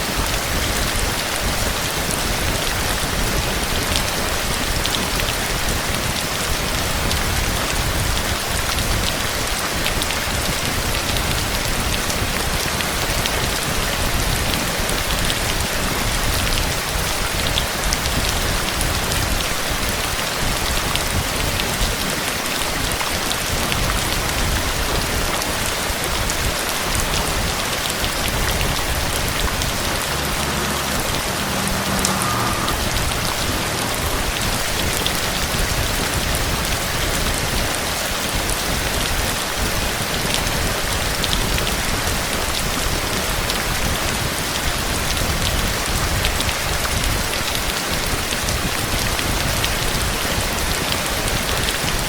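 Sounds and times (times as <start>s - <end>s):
heavy rain patter: 0.0s - 52.0s.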